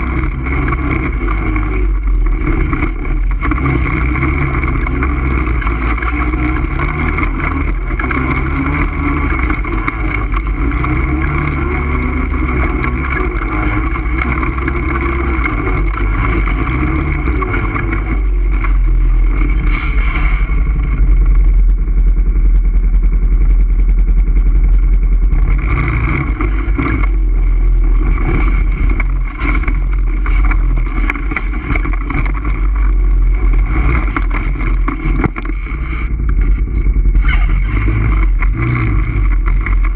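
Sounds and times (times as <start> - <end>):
knocks and rattles: 0.0 - 21.8, 24.7 - 39.9
atv engine running: 0.0 - 39.9.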